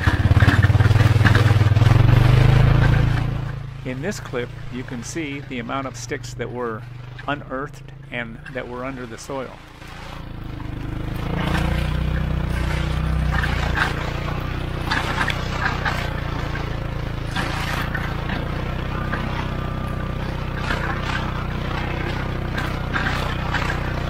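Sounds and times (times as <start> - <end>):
dirt and sticks scraping metal blade: 0.0 - 24.0
utility vehicle engine under load: 0.0 - 24.0.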